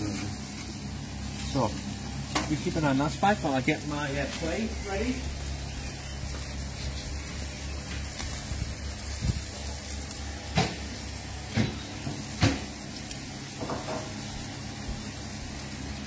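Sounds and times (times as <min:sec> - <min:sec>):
food sizzling on barbecue: 0:00.0 - 0:16.0.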